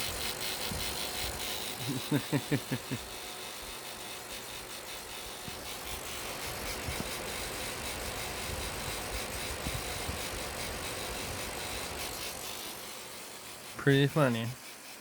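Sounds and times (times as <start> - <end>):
electric fan ticking and rattling: 0.0 - 15.0.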